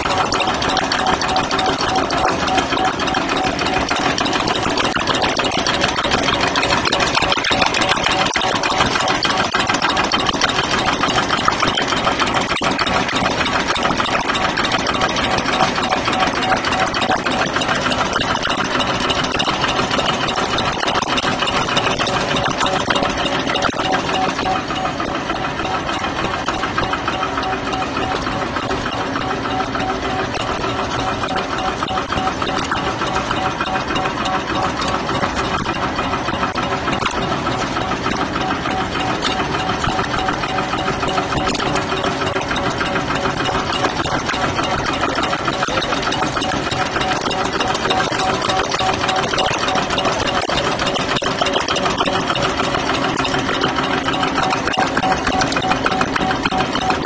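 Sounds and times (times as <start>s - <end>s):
packing machine clattering: 0.0s - 57.0s.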